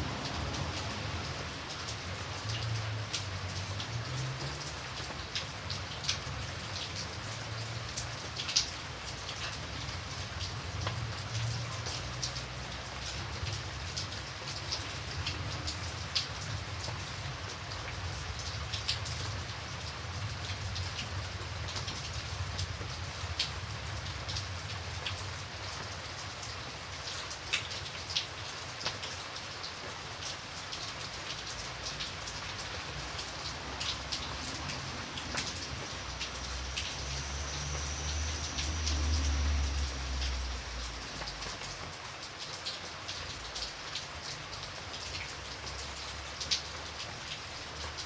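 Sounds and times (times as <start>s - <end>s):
raindrops tapping on a surface: 0.0s - 48.0s
steady rain falling: 0.0s - 48.0s.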